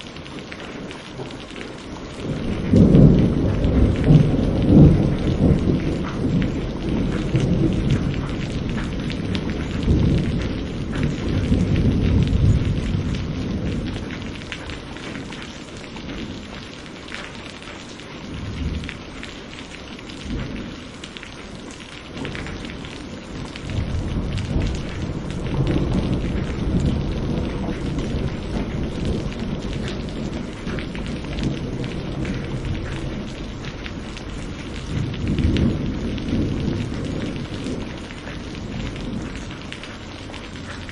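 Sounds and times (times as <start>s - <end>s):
steady rainfall: 0.0s - 40.9s
rolling thunder: 1.1s - 15.4s, 20.2s - 20.8s, 22.2s - 40.9s.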